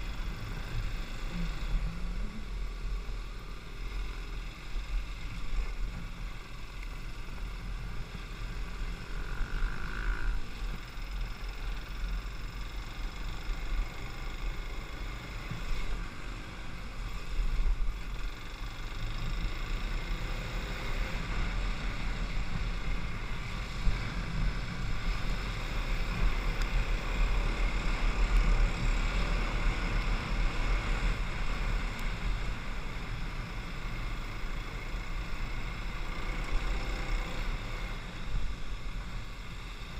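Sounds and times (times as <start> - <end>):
motorcycle engine running: 0.0 - 39.9
rumble from dirt track ride: 0.0 - 39.9.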